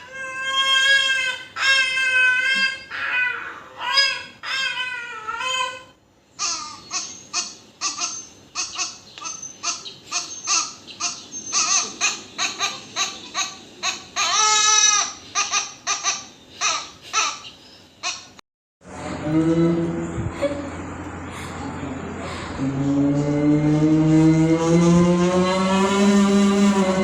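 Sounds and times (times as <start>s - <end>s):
high-pitched whiny cries: 0.0s - 17.4s, 22.5s - 27.0s.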